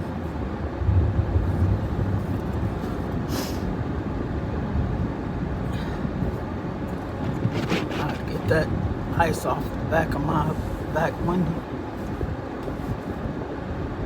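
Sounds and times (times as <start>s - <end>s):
truck engine rumble: 0.0s - 13.2s.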